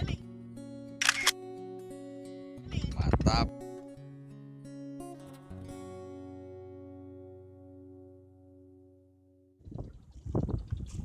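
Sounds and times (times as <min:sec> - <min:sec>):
acoustic guitar chords strummed: 0:00.0 - 0:09.6.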